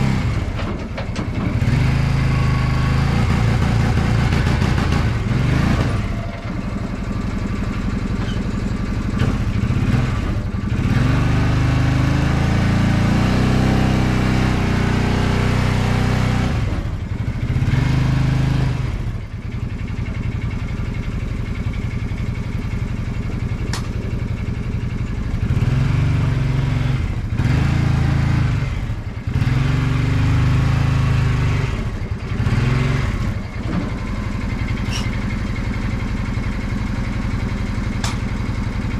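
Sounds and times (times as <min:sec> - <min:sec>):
vehicle engine revving: 0:00.0 - 0:00.6, 0:01.3 - 0:19.3, 0:23.4 - 0:38.9.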